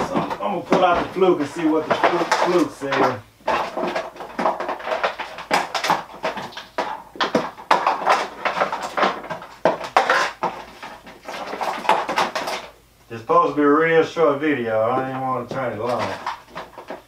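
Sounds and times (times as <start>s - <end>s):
objects rummaged clicking and knocking: 0.0s - 12.8s, 14.9s - 17.0s.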